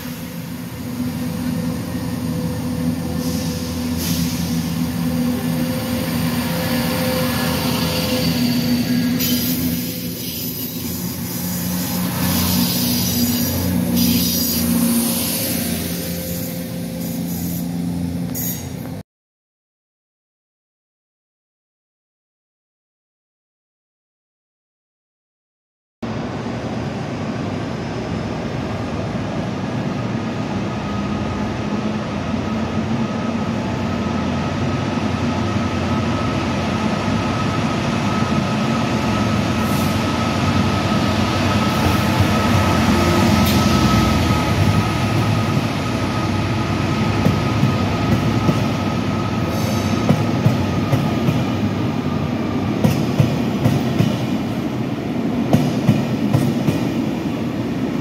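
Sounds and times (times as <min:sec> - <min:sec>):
diesel locomotive engine: 0:00.0 - 0:19.0, 0:26.0 - 0:58.0.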